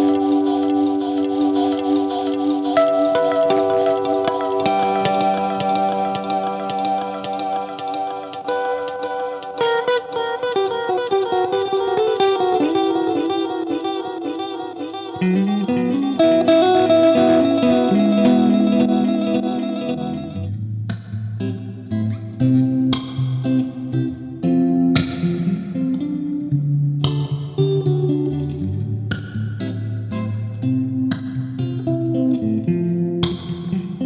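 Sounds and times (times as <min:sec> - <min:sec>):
electric guitar with echo: 0:00.0 - 0:34.0.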